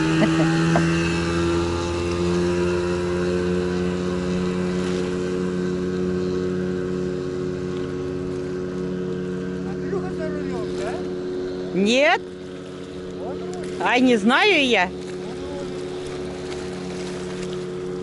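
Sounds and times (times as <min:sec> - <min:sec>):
outboard motor drone: 0:00.0 - 0:18.0.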